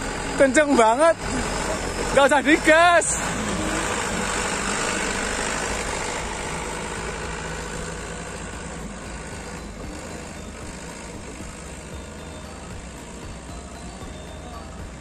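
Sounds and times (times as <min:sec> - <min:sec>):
truck engine driving off: 0:00.0 - 0:15.0.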